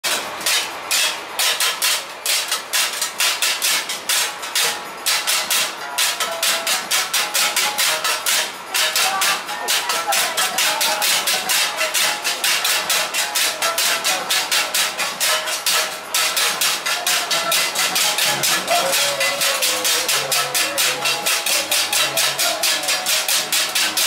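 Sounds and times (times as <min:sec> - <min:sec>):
handheld gongs clanging: 0:00.1 - 0:24.0.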